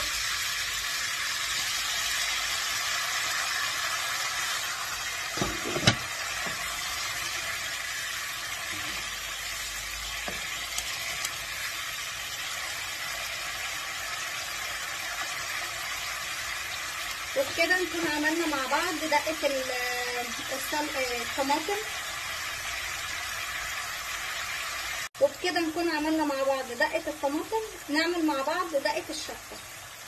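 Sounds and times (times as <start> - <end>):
sauce sizzling in a frying pan: 0.0 - 30.0.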